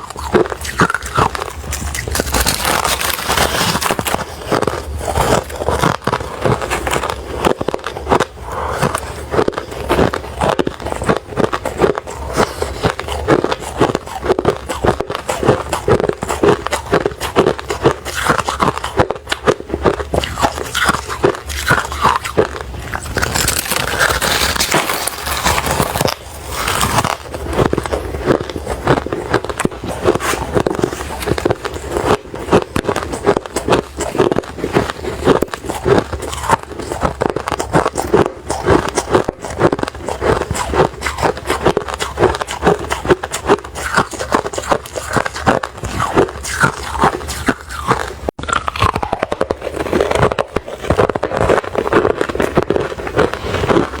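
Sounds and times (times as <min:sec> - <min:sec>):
person chewing crushed ice: 0:00.0 - 0:54.0.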